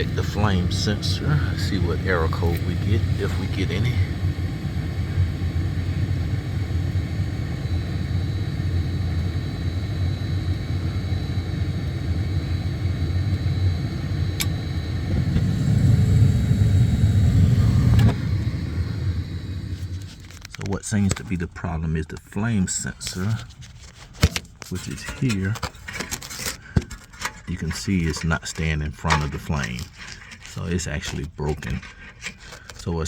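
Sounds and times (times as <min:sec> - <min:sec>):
gas furnace burner and blower rumble: 0:00.0 - 0:33.0.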